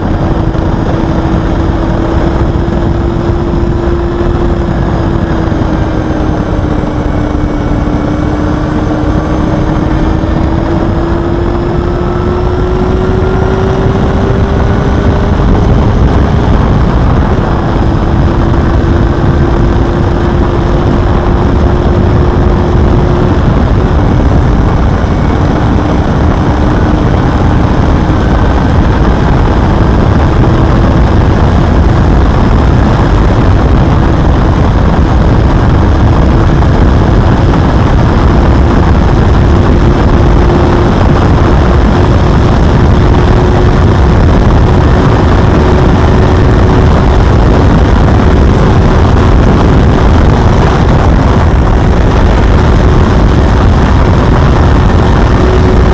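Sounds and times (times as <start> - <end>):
motorcycle engine at high revs: 0.0 - 55.9
wind noise: 0.0 - 55.9.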